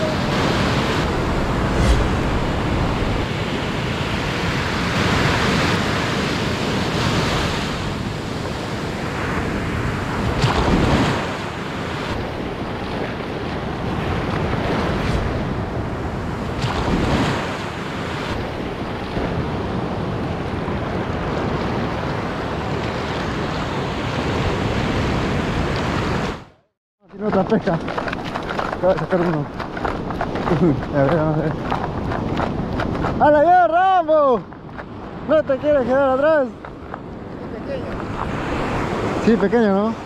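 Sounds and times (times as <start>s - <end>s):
ocean surf breaking: 0.0s - 26.6s, 27.3s - 40.0s.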